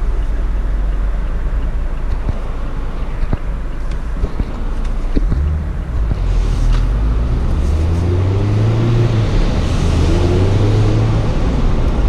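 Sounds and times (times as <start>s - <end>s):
car engine running: 0.0s - 12.0s
road and wind noise: 0.0s - 12.0s.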